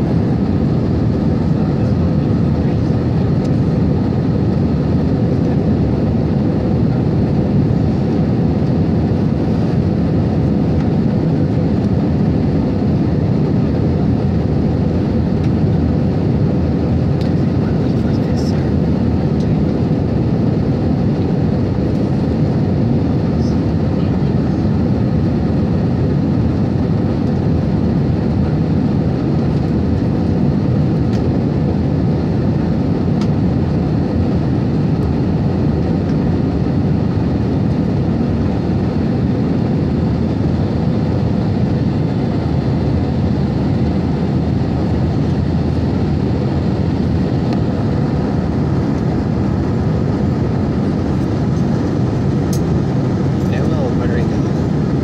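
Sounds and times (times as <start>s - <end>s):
jet engines and rushing air: 0.0s - 55.0s.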